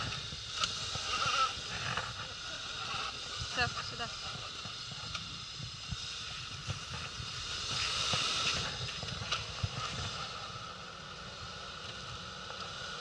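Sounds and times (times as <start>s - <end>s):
car engine rumble: 0.0s - 13.0s
hissing rush of slush: 0.0s - 13.0s.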